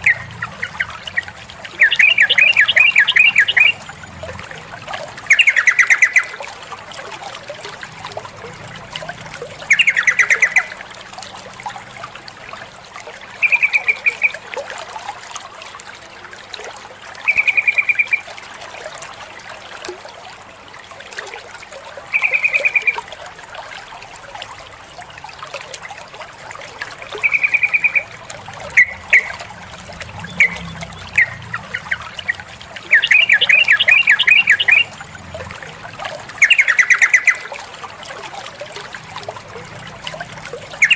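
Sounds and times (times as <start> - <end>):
bulbul bubbling calls: 0.0 - 15.2, 17.1 - 18.8, 21.2 - 40.9.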